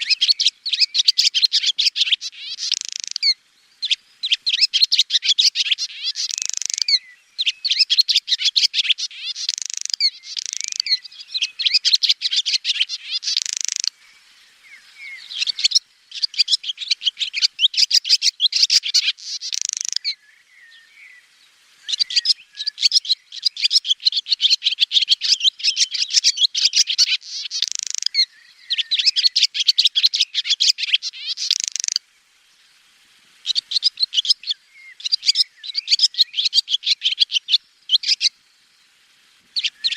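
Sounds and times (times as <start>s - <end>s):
swallow twittering: 0.0s - 21.1s, 21.9s - 32.0s, 33.4s - 38.4s, 39.6s - 39.9s.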